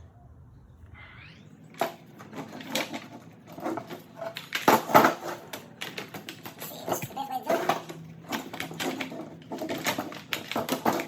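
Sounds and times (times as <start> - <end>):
plastic parts clicking and knocking: 1.7 - 11.0.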